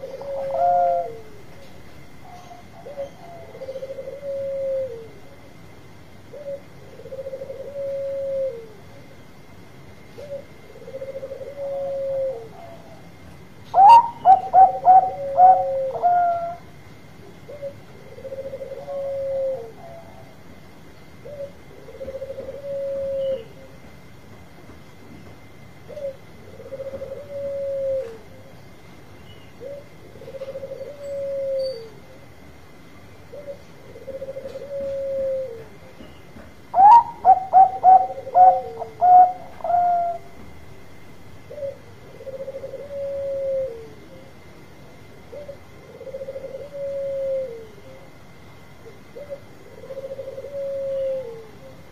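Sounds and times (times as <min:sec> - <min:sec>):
dove cooing: 0:00.0 - 0:01.6, 0:02.2 - 0:05.6, 0:06.2 - 0:09.1, 0:10.0 - 0:20.4, 0:21.2 - 0:23.9, 0:25.8 - 0:28.6, 0:29.5 - 0:32.4, 0:33.2 - 0:40.5, 0:41.4 - 0:44.4, 0:45.0 - 0:51.9.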